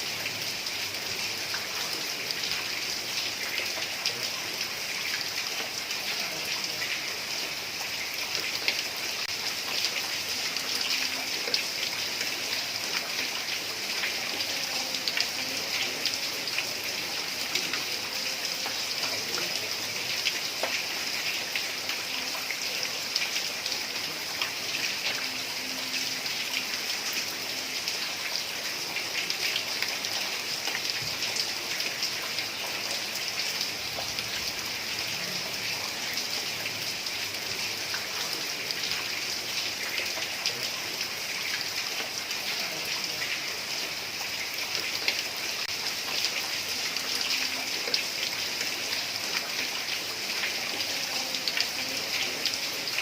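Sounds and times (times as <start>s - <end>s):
heavy rain on a tiled roof: 0.0s - 53.0s.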